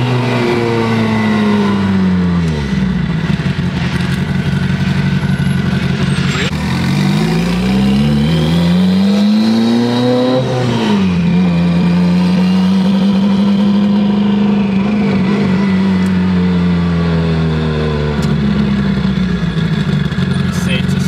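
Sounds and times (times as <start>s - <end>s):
turbocharged car engine running: 0.0s - 21.0s.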